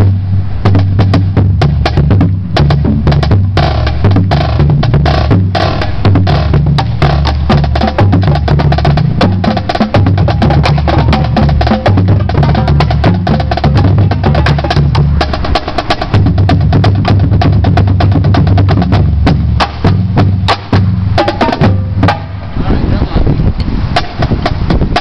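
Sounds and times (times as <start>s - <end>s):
marching drumline playing: 0.0s - 22.4s, 23.9s - 25.0s
low bass drums: 0.0s - 25.0s.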